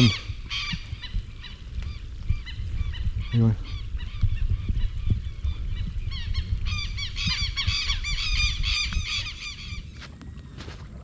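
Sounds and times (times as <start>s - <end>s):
flock of birds calling: 0.0s - 10.2s
low rumble: 0.0s - 11.0s.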